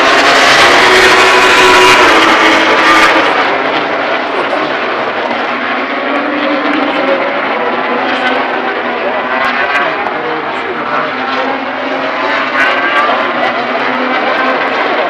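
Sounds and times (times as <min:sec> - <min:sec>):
race motorcycle engines droning: 0:00.0 - 0:15.0.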